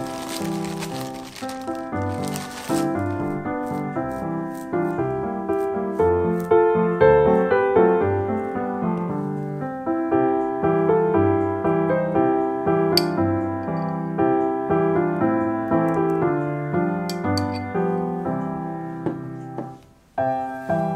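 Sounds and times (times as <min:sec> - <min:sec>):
piano music: 0:00.0 - 0:20.9.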